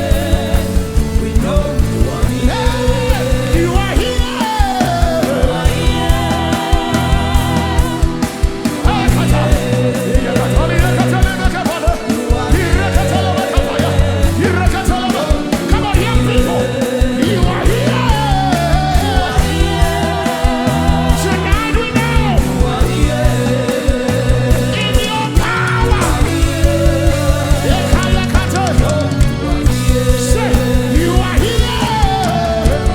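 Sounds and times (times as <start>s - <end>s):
gospel band playing: 0.0s - 32.9s
steady drum beat: 0.0s - 32.9s
voices singing: 0.0s - 32.9s.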